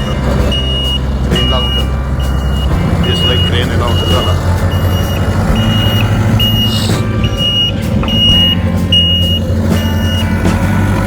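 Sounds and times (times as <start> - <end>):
reversing alarm beeping: 0.0 - 10.7
diesel engine running: 0.0 - 11.0.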